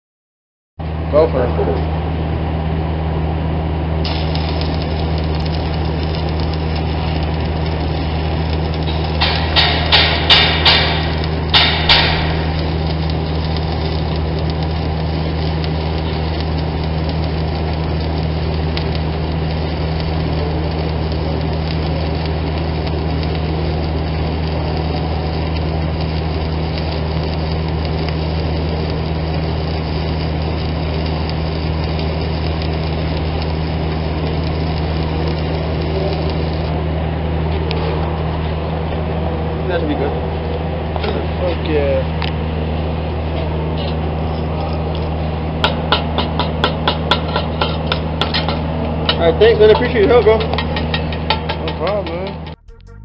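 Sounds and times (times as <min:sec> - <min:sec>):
steady low hum: 0:00.8 - 0:53.0
welding arc crackling: 0:03.2 - 0:52.7.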